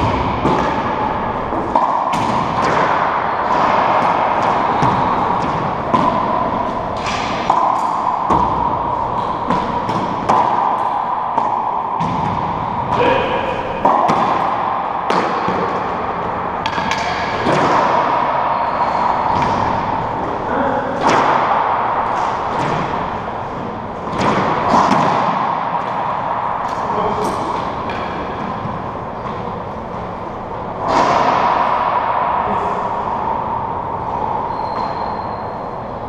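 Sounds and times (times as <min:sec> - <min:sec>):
ball smacking in echoing court: 0:00.0 - 0:35.8.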